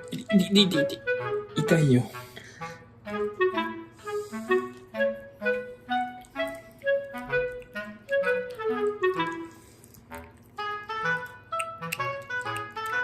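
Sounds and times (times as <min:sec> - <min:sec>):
light background melody: 0:00.0 - 0:13.0.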